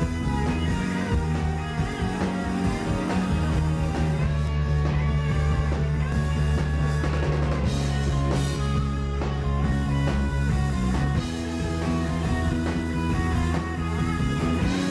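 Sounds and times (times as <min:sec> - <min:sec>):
drum kit: 0:00.0 - 0:14.9
electric guitars: 0:00.0 - 0:14.9.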